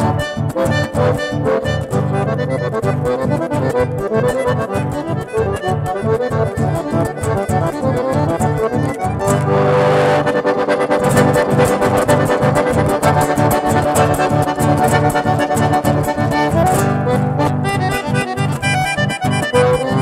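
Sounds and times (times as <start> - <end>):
acoustic guitar accompaniment: 0.0 - 20.0
button accordion melody: 0.0 - 20.0.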